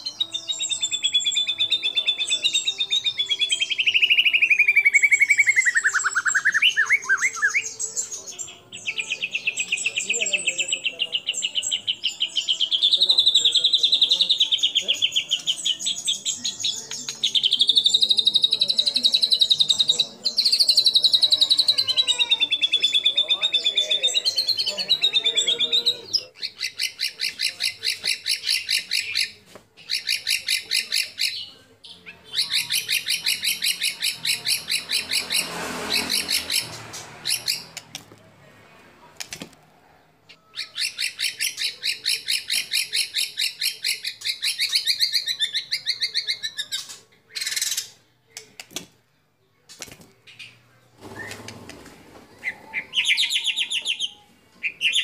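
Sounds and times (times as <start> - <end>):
bird singing rapid repeated notes: 0.0 - 38.0, 40.5 - 48.7, 52.4 - 55.0.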